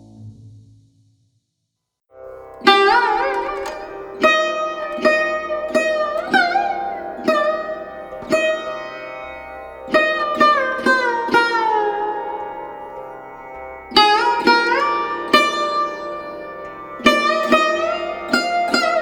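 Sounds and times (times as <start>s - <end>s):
plucked string instrument: 2.3s - 19.0s.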